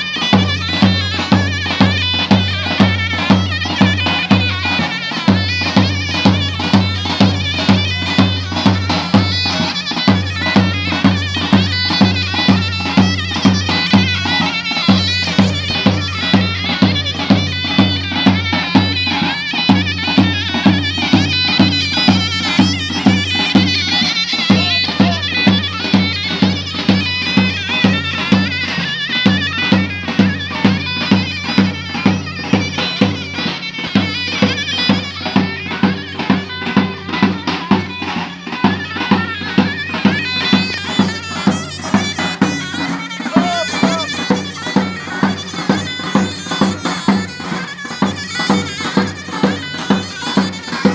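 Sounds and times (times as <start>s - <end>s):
shrill wind instrument melody: 0.0s - 50.9s.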